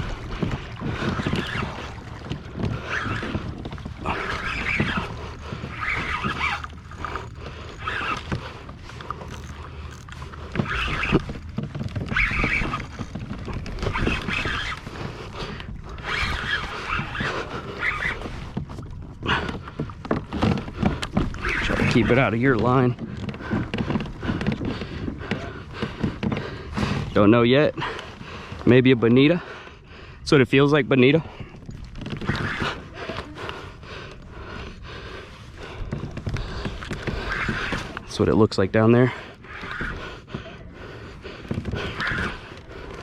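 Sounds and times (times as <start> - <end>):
water lapping against kayak hull: 0.0 - 43.0.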